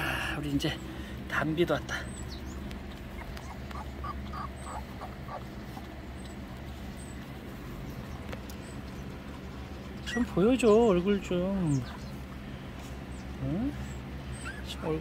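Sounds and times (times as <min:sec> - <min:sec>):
steady low hum: 0:00.0 - 0:15.0
puppies squeaking: 0:02.0 - 0:12.3, 0:13.0 - 0:15.0.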